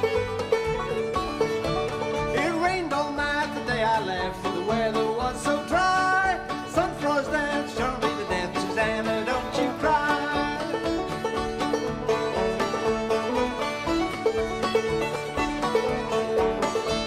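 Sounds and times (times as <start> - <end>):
bluegrass music with banjo: 0.0 - 17.0.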